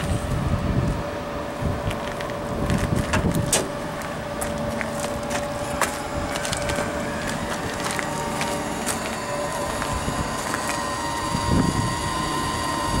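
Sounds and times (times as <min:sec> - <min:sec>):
faint steady whine: 0:00.0 - 0:13.0
outdoor rumble: 0:00.0 - 0:13.0
wind buffeting microphone: 0:00.0 - 0:13.0.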